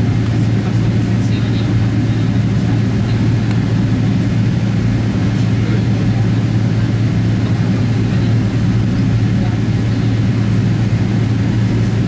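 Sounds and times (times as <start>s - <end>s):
aircraft and machinery drone: 0.0s - 12.0s.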